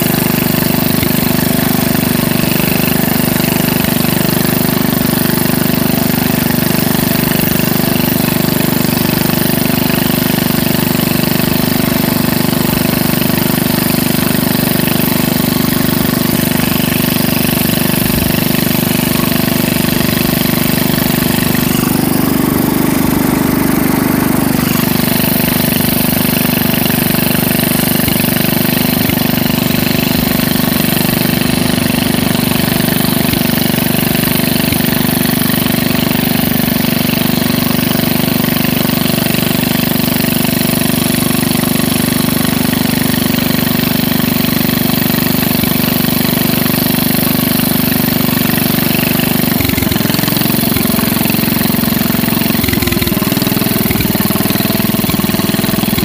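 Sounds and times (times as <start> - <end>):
lawn tractor engine running: 0.0 - 56.0.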